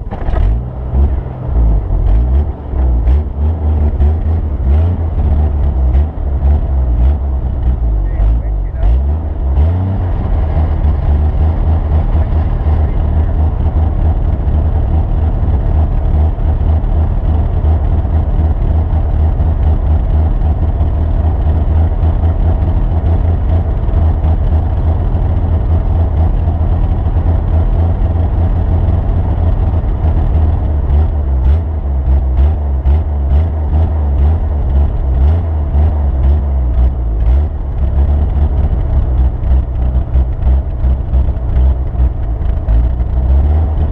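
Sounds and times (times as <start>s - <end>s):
vehicle engine rumbling: 0.0s - 43.9s.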